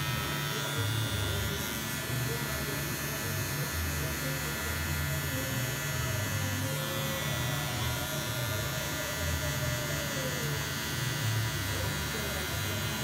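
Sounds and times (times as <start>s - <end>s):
electric hair clippers humming: 0.0s - 13.0s.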